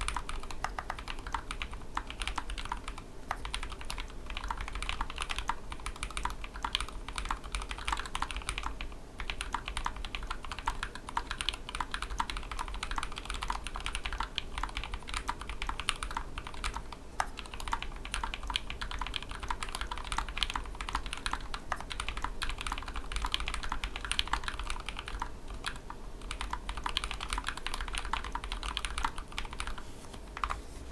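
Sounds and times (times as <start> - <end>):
fast mechanical keyboard typing: 0.0 - 30.6.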